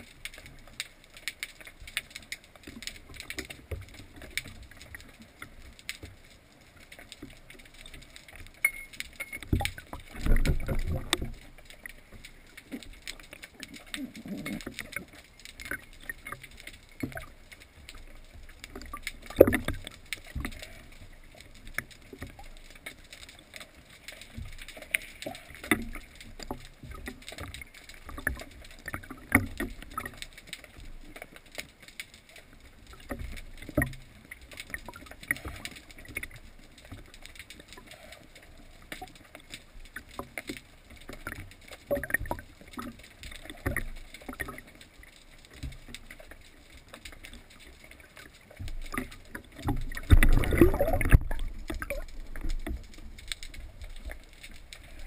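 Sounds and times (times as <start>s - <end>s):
water moving underwater: 0.0s - 55.0s.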